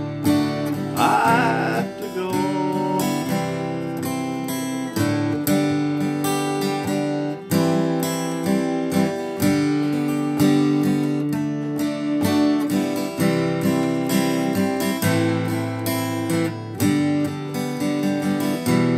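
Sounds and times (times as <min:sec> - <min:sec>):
acoustic guitar strumming: 0:00.0 - 0:18.9.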